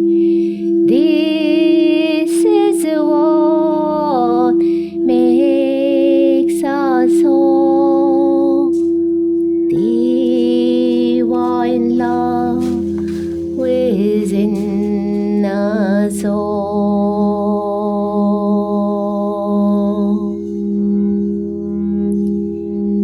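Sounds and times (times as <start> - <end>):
wordless singing with vibrato: 0.0 - 8.9, 9.7 - 20.7
steady low drone: 0.0 - 23.0.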